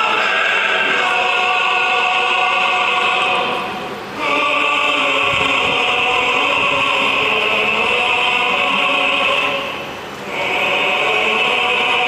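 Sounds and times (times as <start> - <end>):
choir holding long notes: 0.0 - 12.0.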